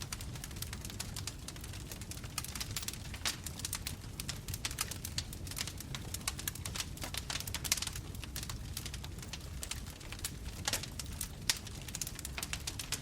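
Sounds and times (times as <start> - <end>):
burning wood crackling: 0.0 - 13.0
low rumble of flames: 0.0 - 13.0.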